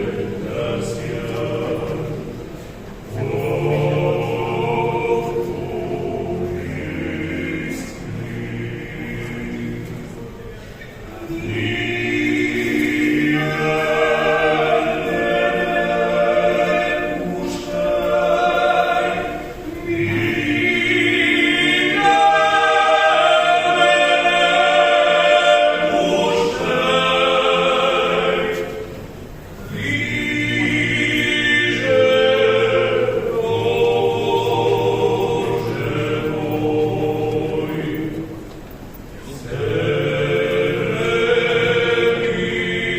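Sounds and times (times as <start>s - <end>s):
a cappella choir singing: 0.0s - 42.9s.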